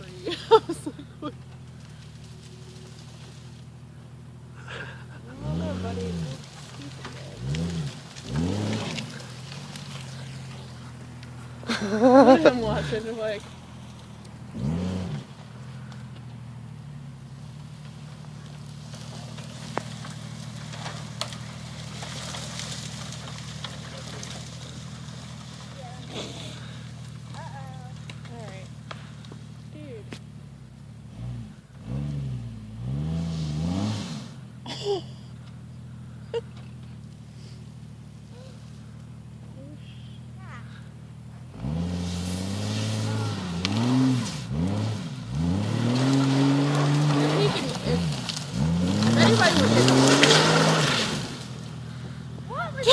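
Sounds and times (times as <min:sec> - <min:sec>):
irregular crackling: 0:00.0 - 0:32.2, 0:41.5 - 0:52.9
engine running steadily: 0:00.0 - 0:52.9.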